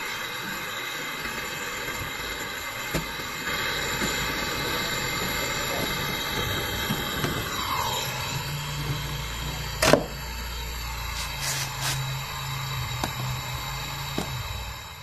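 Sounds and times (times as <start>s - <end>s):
flame popping out: 0.0s - 9.2s, 9.8s - 14.9s
torch flame hissing: 0.0s - 15.0s.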